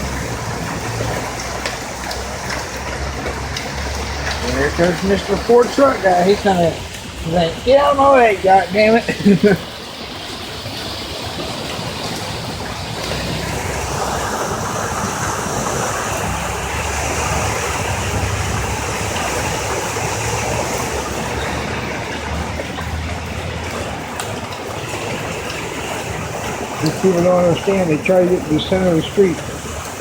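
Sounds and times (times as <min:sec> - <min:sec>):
truck engine rumble: 0:00.0 - 0:30.0
tyres splashing through water: 0:00.0 - 0:30.0.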